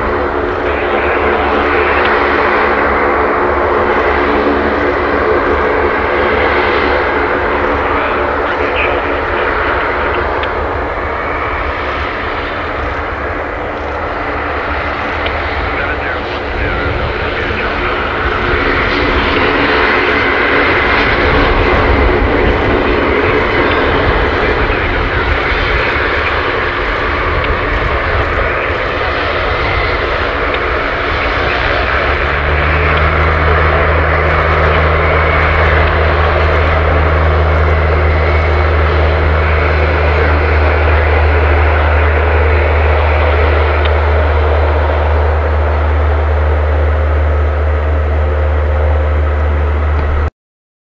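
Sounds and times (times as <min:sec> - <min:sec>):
deep steady low hum: 0:00.0 - 0:50.3
turboprop propeller drone: 0:00.0 - 0:50.3.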